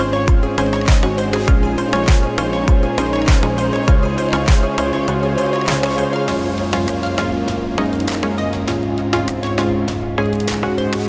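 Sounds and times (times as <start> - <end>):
music with kick-drum beat: 0.0 - 11.0.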